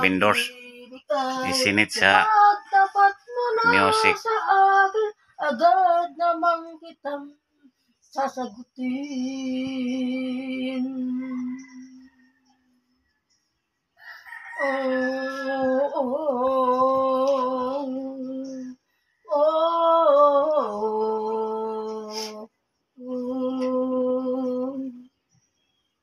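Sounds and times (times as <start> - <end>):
woman singing unaccompanied: 0.0 - 12.5, 14.3 - 25.3.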